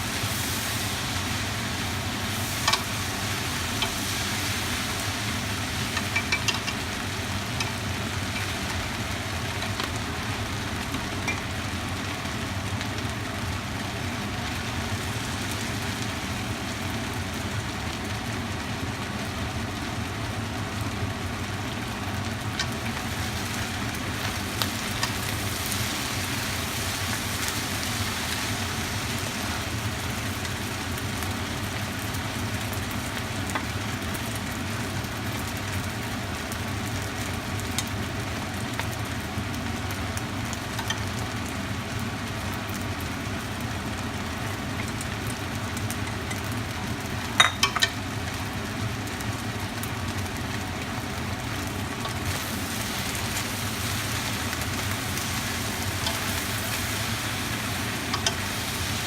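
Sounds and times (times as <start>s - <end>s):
noodles sizzling in a hot pan: 0.0s - 59.0s.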